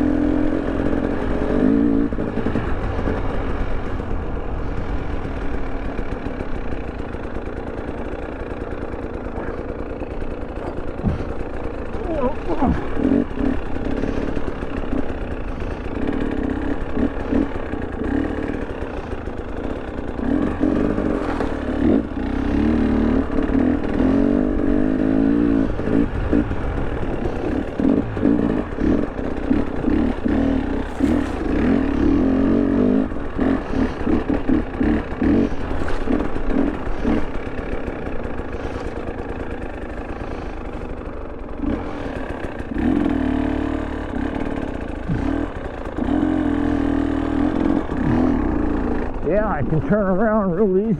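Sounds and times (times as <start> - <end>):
two-stroke dirt bike engine revving: 0.0 - 50.9.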